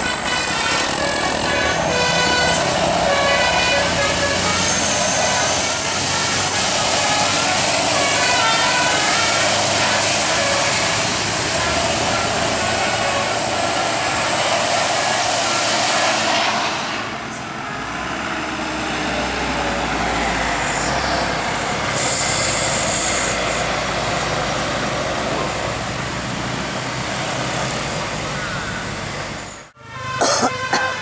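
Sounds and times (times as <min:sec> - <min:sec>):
road traffic rush: 0:00.0 - 0:31.0.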